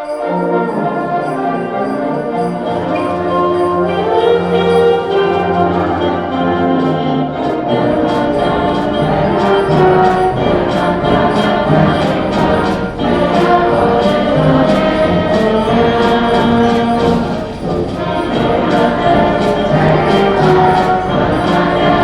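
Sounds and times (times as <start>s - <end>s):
audience singing along: 0.0s - 22.0s
school band playing: 0.0s - 22.0s.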